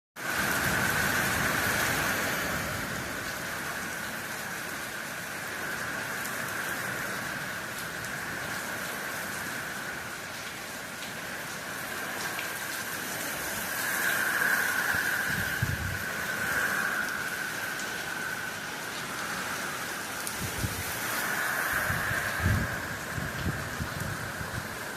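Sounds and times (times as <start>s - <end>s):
rain on a roof: 0.2s - 24.9s.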